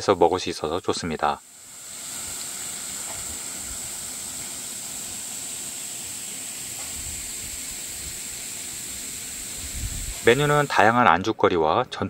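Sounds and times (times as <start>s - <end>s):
steady outdoor ambient hiss: 0.0s - 12.0s.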